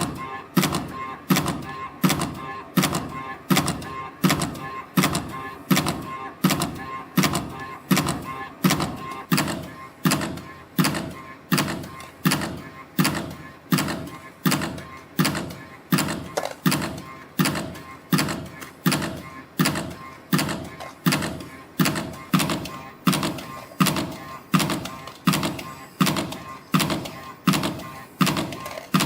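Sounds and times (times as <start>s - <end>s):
faint machine hum: 0.0s - 29.0s
sharp machine clack: 0.0s - 29.0s.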